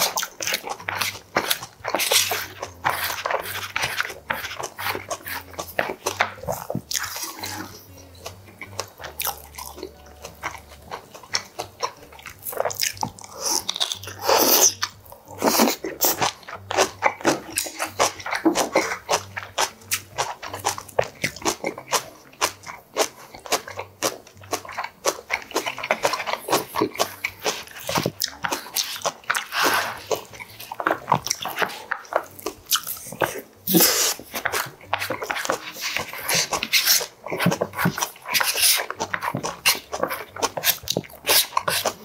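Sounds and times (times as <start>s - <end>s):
close-miked chewing: 0.0s - 42.0s.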